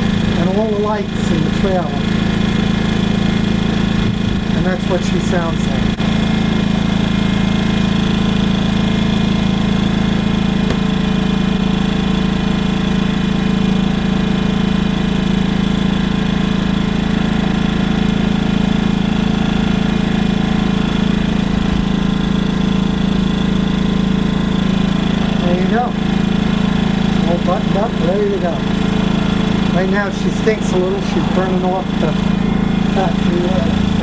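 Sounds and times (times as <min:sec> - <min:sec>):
generator engine humming: 0:00.0 - 0:34.0.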